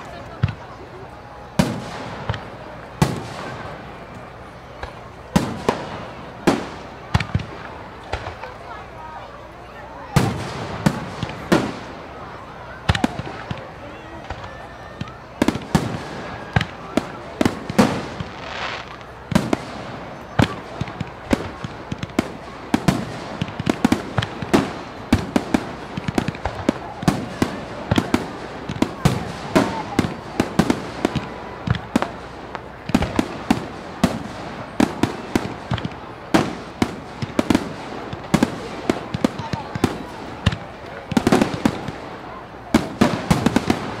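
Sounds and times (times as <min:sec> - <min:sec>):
fireworks bangs and crackling: 0:00.0 - 0:44.0
steady background noise: 0:00.0 - 0:44.0.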